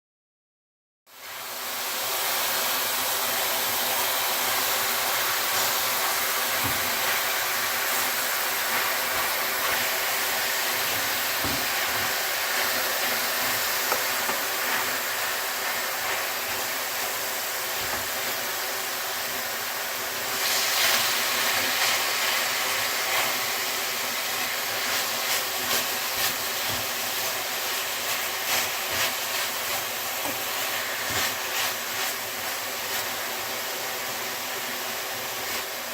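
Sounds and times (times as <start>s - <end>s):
meat sizzling in a pan: 1.1s - 35.9s.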